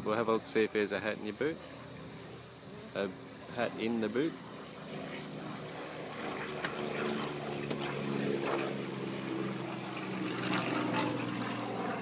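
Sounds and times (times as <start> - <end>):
stunt plane engine droning: 1.3 - 12.0.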